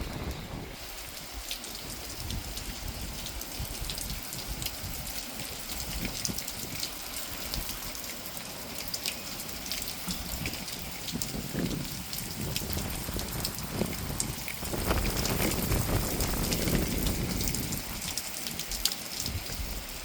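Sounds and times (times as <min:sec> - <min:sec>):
rain drops ticking: 0:00.0 - 0:20.0
steady rain patter: 0:00.0 - 0:20.0.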